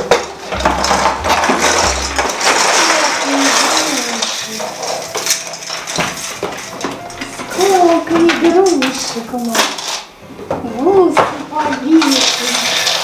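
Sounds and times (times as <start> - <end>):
baubles clattering and rustling: 0.0 - 13.0.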